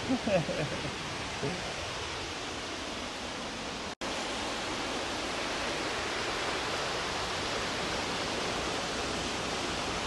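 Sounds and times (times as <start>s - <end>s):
rush of falling water: 0.0s - 10.0s.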